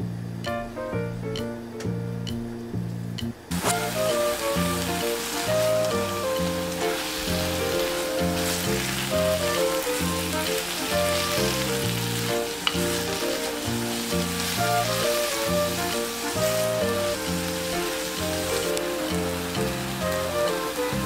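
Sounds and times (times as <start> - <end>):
background music with bass line: 0.0 - 21.0
food sizzling in oil: 3.5 - 21.0.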